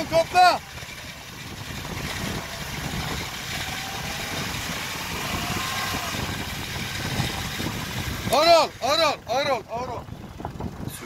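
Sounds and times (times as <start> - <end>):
truck engine running under load: 0.0 - 11.0
wheels churning through mud: 0.0 - 11.0.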